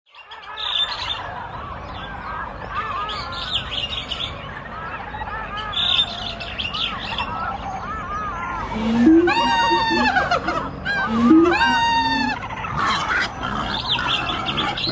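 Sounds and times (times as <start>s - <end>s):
birds chirping and calling: 0.2s - 14.9s
low steady rumble: 0.9s - 14.9s.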